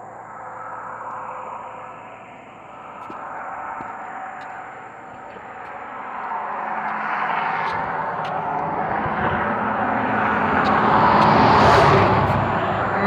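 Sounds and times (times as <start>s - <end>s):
vehicle passing: 0.6s - 13.0s.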